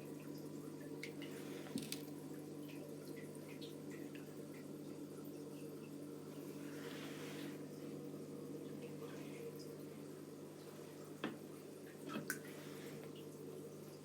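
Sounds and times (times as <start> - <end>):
water trickling and dripping: 0.0 - 6.7, 7.6 - 14.0.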